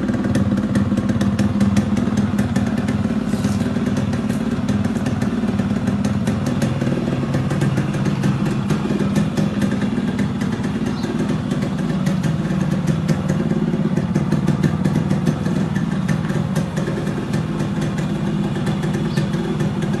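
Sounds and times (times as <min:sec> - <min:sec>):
two-stroke motorcycle engine running: 0:00.0 - 0:20.0.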